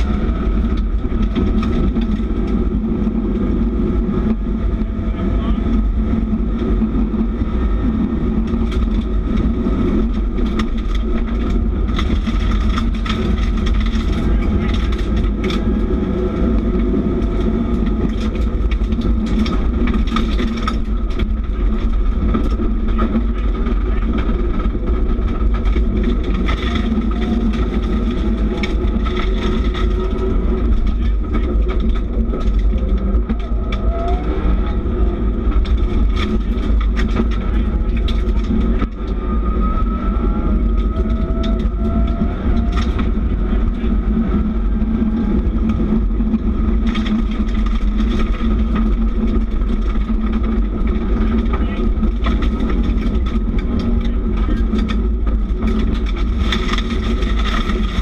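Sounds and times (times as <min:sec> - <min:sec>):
gravel rattling against underbody: 0:00.0 - 0:58.0
rally car engine pulling hard: 0:00.0 - 0:58.0
tyre and road rumble: 0:00.0 - 0:58.0.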